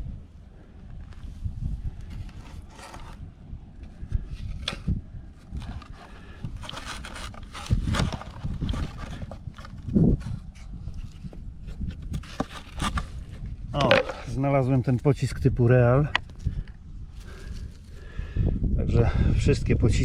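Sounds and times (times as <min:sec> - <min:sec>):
rustling and scraping handling noises: 0:00.8 - 0:18.2.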